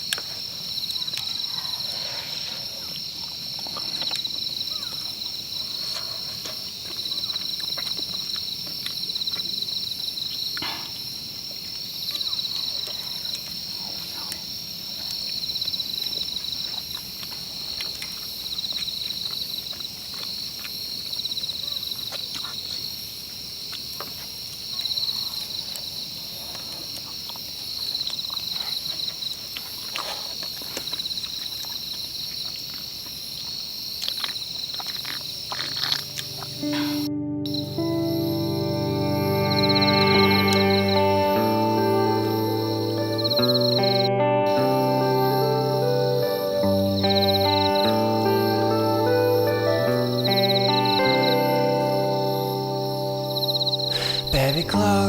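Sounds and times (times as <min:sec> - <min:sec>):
insects trilling: 0:00.0 - 0:55.0.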